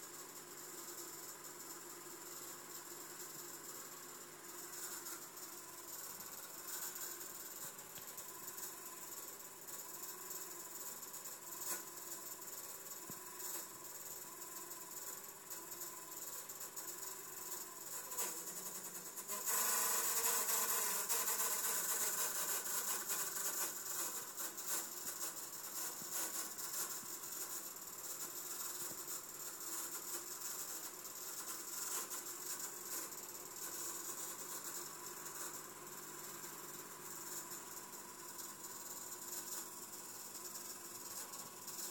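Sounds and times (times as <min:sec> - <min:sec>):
laptop whirring hiss: 0:00.0 - 0:41.9.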